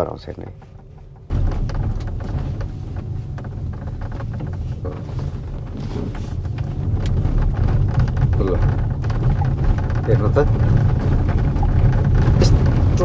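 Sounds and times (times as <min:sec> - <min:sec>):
car road rumble: 0:00.0 - 0:13.0
roof clicks and creaks: 0:00.0 - 0:13.0.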